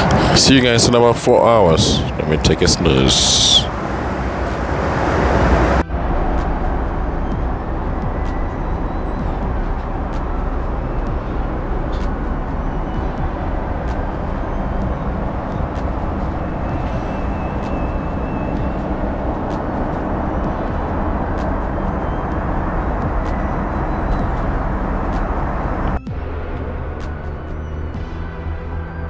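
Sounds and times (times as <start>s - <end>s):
airplane cabin noise: 0.0s - 29.0s.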